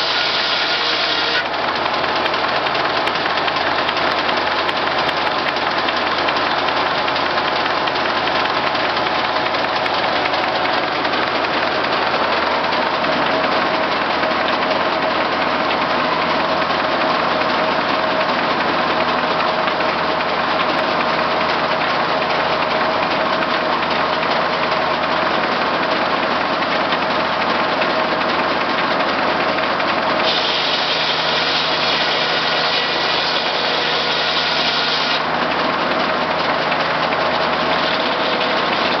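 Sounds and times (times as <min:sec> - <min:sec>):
circular sawmill running: 0:00.0 - 0:39.0
engine running: 0:00.0 - 0:39.0.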